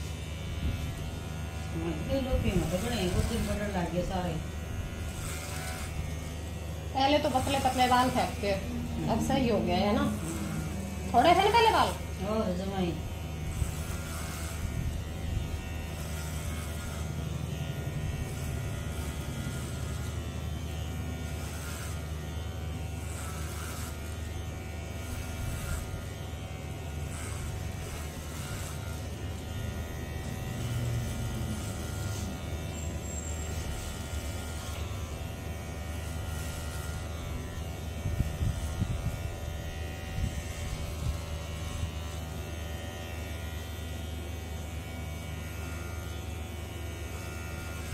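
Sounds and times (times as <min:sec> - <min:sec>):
electric hair clipper buzzing: 0:00.0 - 0:47.9.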